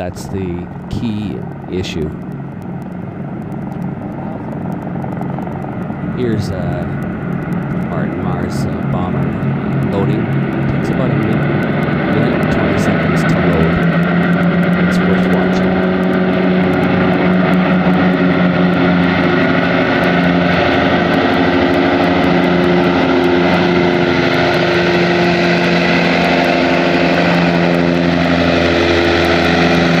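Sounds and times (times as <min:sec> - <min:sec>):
propeller aircraft engines droning: 0:00.0 - 0:30.0.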